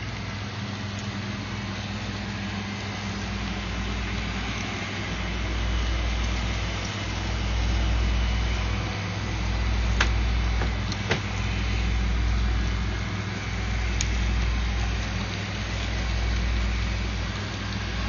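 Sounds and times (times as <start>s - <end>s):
model locomotive rumble and hum: 0.0s - 18.0s.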